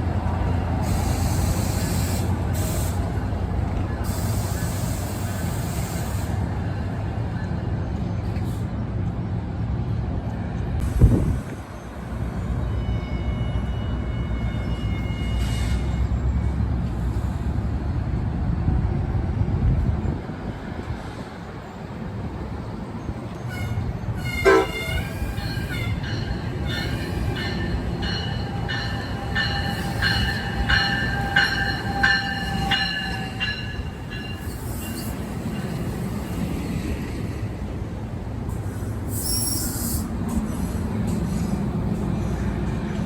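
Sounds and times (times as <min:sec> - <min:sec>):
freight train rumbling on rails: 0:00.0 - 0:43.0.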